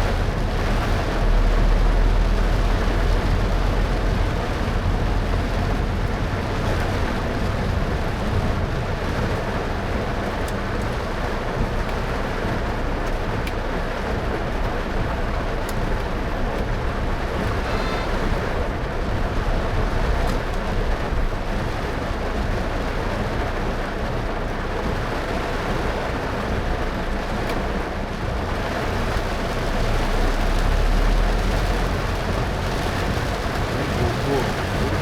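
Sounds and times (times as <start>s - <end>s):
heavy rain: 0.0s - 35.0s
low road rumble: 0.0s - 35.0s
tyres on wet road: 0.0s - 35.0s.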